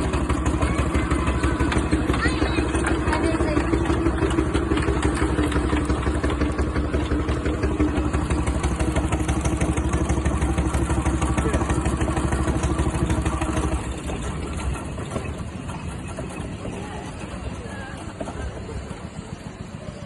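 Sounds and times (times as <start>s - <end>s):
engine exhaust beat: 0.0s - 20.0s.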